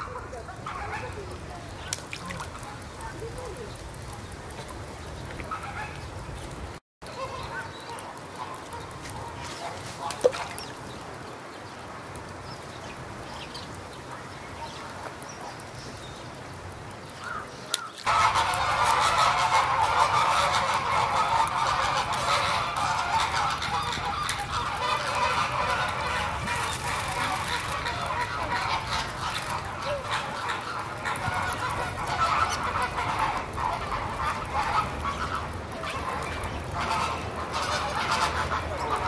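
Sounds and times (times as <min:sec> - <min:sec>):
many birds calling: 0:00.0 - 0:39.0.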